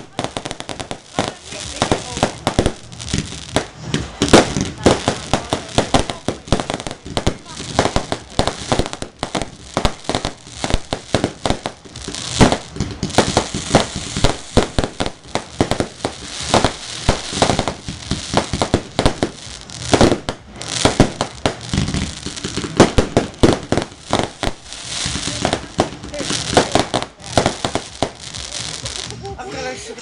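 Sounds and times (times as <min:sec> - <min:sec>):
fireworks cracking and popping: 0:00.0 - 0:30.0.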